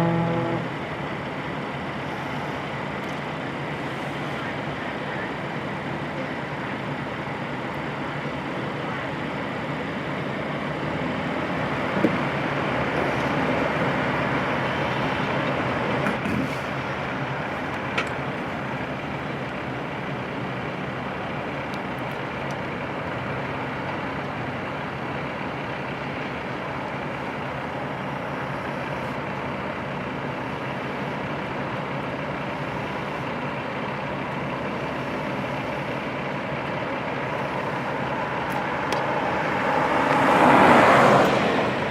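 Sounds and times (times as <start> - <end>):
heavy truck engine running: 0.0 - 41.9.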